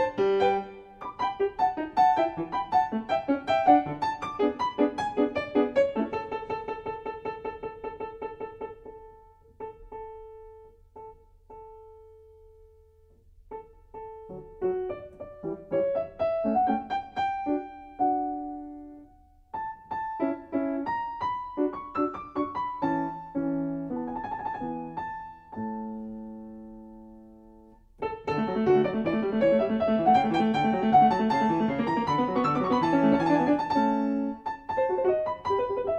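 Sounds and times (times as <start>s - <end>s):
solo piano music: 0.0s - 35.9s.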